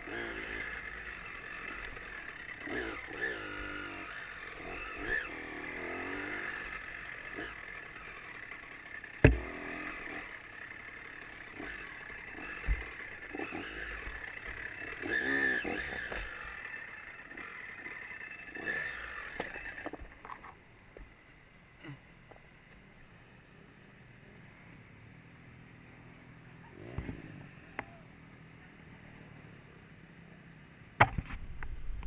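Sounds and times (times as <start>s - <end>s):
motorcycle engine revving: 0.0s - 20.6s, 23.1s - 32.0s.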